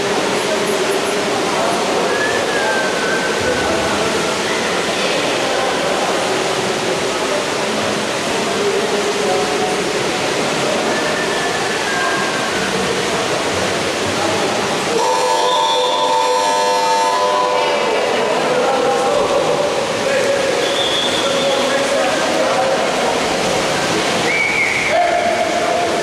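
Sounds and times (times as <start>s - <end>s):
water splashing in pool: 0.0s - 26.0s.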